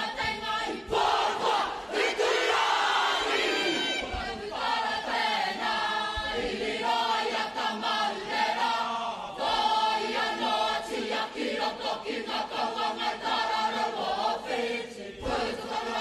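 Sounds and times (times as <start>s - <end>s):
group chanting in unison: 0.0s - 16.0s.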